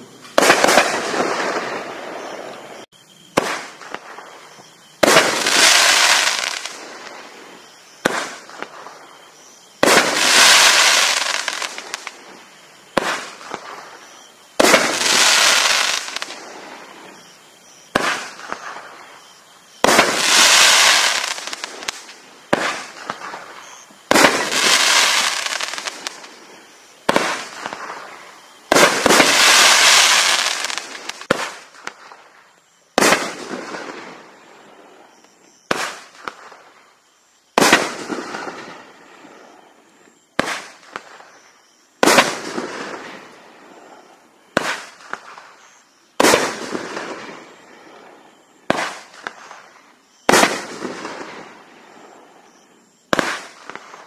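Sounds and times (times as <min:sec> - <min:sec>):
firework break with fizzing crackle: 0:00.0 - 0:36.9, 0:37.5 - 0:54.0.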